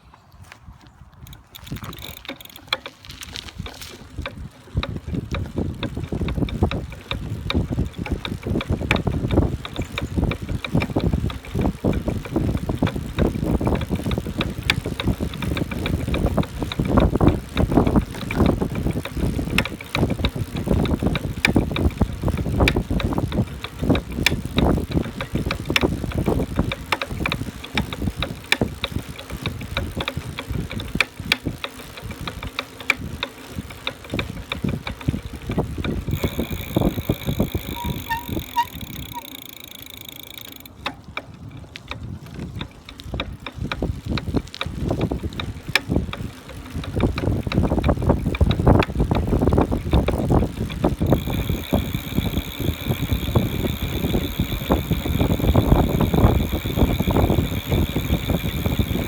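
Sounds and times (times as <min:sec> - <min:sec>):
e-bike motor knocking: 0:01.2 - 0:41.3, 0:41.9 - 0:59.0.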